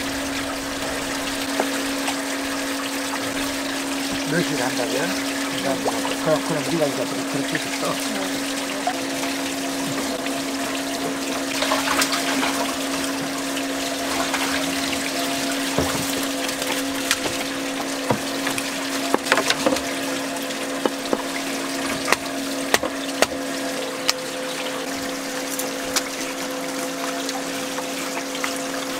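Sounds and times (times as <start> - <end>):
boat machinery humming: 0.0 - 28.9
water running: 0.0 - 28.9.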